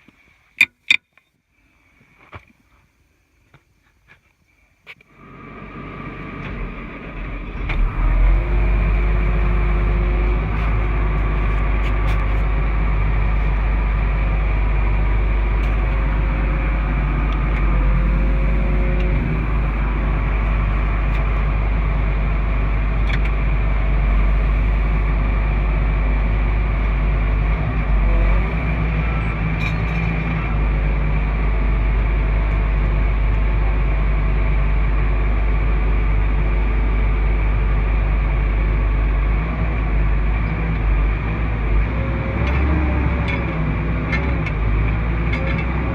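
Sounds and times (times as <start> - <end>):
large engine rumbling: 5.0 - 45.9.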